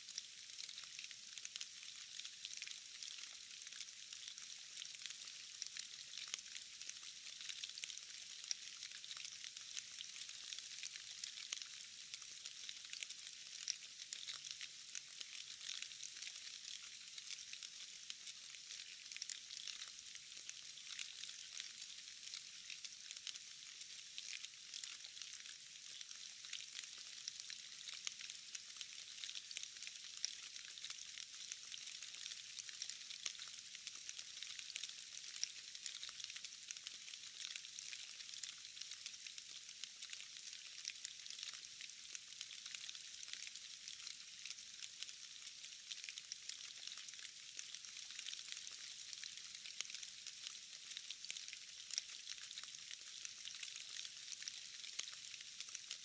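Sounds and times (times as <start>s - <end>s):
rain falling into a puddle: 0.0s - 56.0s.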